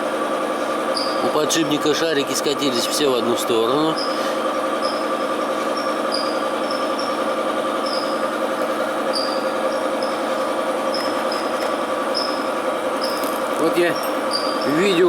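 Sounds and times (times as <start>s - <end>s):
machine hum with steady tones: 0.0s - 15.0s.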